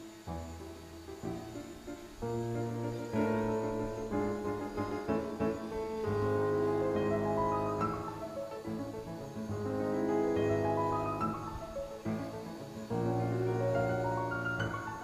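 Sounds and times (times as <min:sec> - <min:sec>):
piano slow chords: 0:00.0 - 0:15.0.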